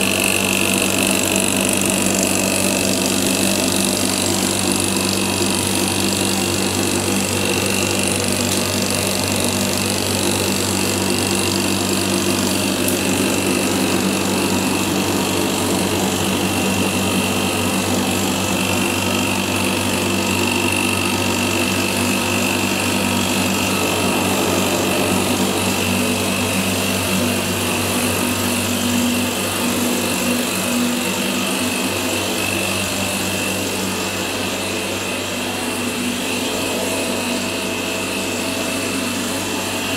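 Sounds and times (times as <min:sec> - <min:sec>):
pump humming with high whine: 0:00.0 - 0:39.9.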